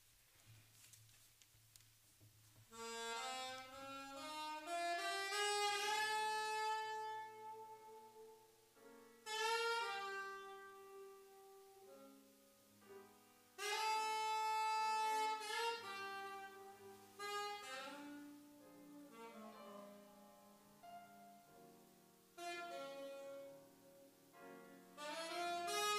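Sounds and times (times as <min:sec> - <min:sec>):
grand piano accompaniment: 0:02.6 - 0:25.9
saxophone slow melody: 0:02.7 - 0:25.9.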